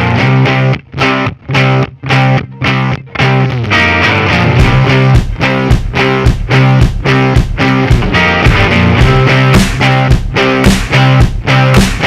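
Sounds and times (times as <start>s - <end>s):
distorted electric guitar music: 0.0s - 12.0s.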